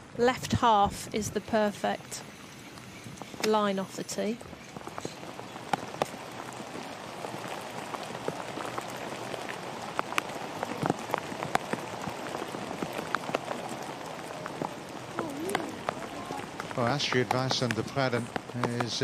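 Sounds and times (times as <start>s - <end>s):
steady rain hissing: 0.0s - 19.0s
raindrops ticking: 0.2s - 19.0s.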